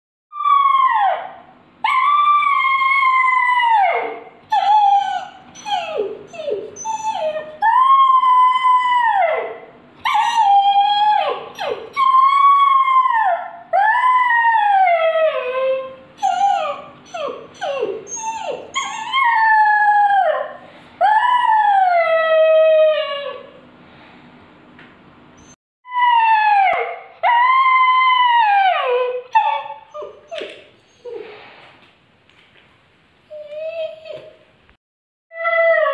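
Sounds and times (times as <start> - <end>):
puppy howling: 0.4 - 23.5, 25.9 - 31.2, 35.3 - 35.9
puppy yelps and whines: 0.4 - 23.5, 25.4 - 31.5, 33.3 - 34.4, 35.3 - 35.9.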